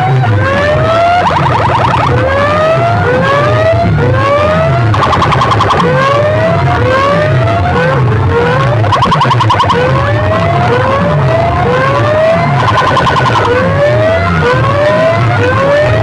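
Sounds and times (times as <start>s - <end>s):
siren-effect electronic music: 0.0s - 16.0s.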